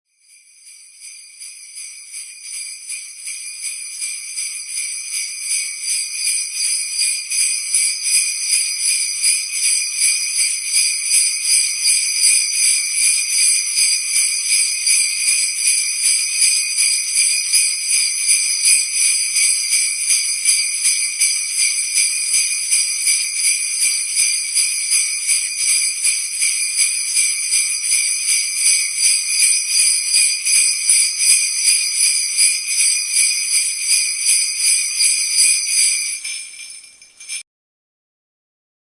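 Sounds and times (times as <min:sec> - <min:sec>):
sleigh bells jingling: 0:00.1 - 0:37.4.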